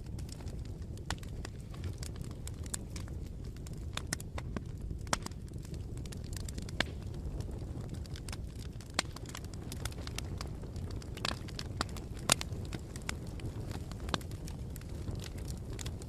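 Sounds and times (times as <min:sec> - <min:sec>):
burning wood snapping and popping: 0:00.0 - 0:16.0
low rumble of flames: 0:00.0 - 0:16.0.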